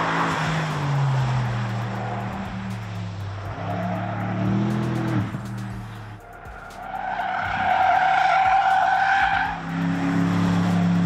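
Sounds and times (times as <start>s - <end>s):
car engine revving: 0.0s - 11.0s
tyres squealing: 0.0s - 11.0s.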